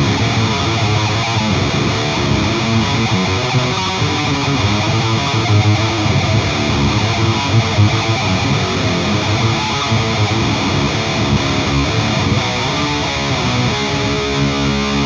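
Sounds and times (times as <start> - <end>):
distorted electric guitar riffing: 0.0 - 15.0.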